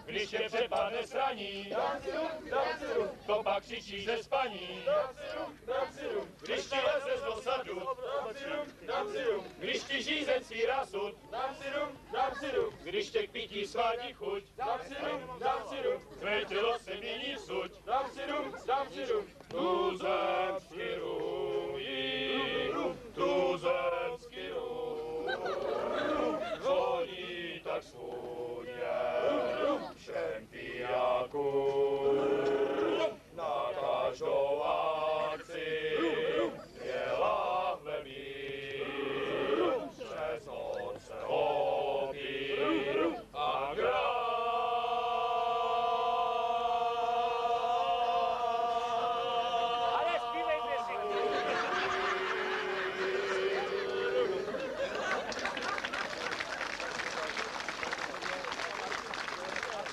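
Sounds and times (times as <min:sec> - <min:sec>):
group singing in chorus: 0:00.0 - 0:55.3.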